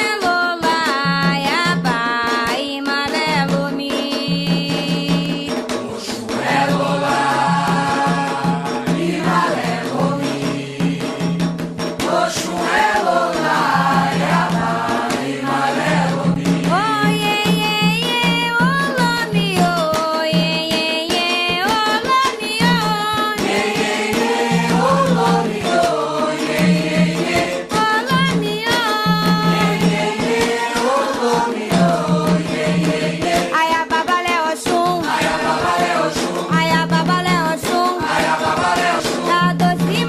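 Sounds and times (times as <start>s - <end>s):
hand drums beating: 0.0s - 40.0s
voices singing a chant: 4.2s - 19.5s, 22.6s - 40.0s.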